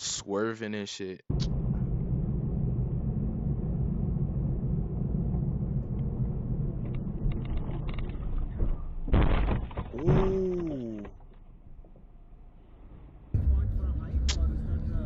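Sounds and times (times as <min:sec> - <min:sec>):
car driving rumble: 0:01.3 - 0:15.0.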